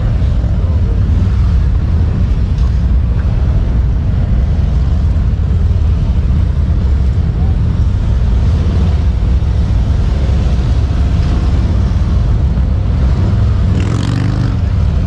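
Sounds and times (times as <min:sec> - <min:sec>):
heavy motorcycles rumbling: 0:00.0 - 0:15.0.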